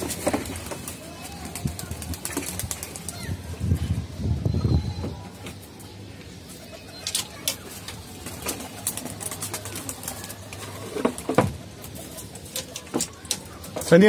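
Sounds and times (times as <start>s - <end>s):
pigeons cooing: 0.0s - 13.8s.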